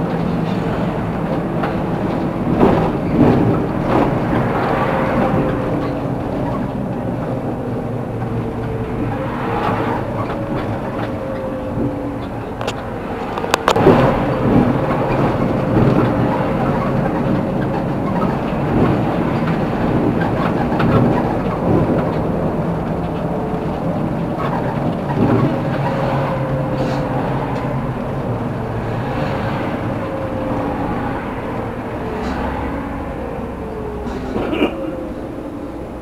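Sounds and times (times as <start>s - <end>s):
vehicle running rumble: 0.0s - 36.0s.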